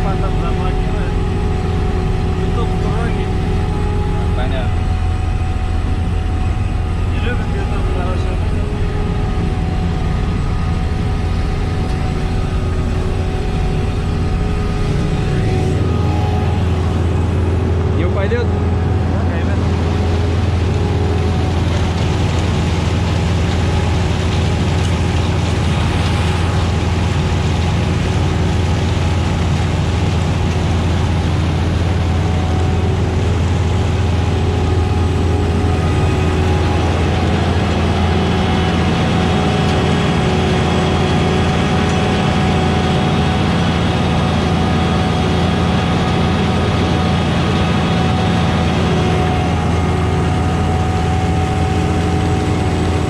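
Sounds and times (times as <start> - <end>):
diesel machinery drone: 0.0 - 53.0
higher whine: 0.0 - 53.0.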